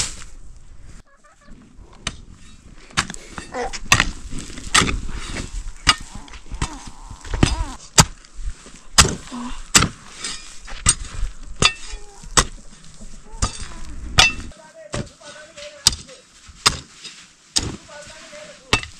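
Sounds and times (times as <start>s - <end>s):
hand hoe chopping soil: 1.9s - 18.9s.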